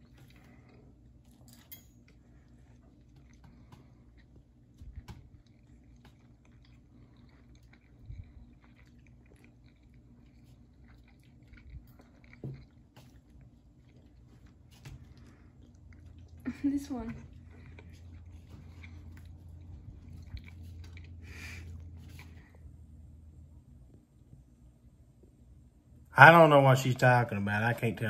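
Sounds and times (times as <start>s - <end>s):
person chewing soft food: 0.0s - 24.6s.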